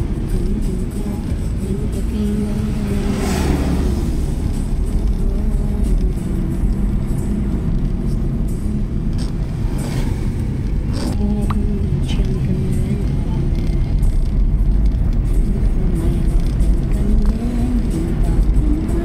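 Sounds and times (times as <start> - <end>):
vehicle engine low rumble: 0.0 - 19.0.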